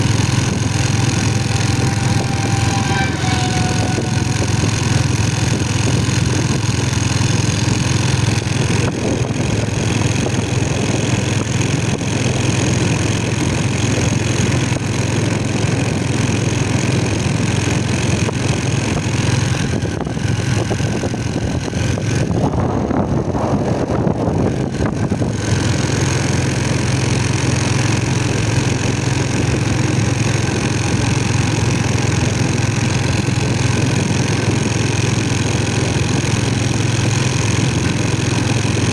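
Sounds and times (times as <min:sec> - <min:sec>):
engine running with hiss: 0:00.0 - 0:38.9.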